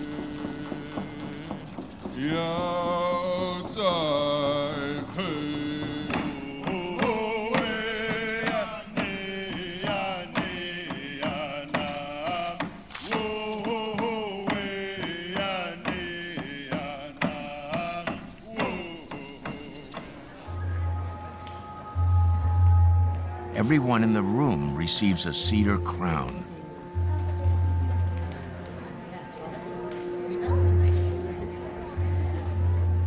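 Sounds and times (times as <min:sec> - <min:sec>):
person chanting: 0:00.0 - 0:28.3.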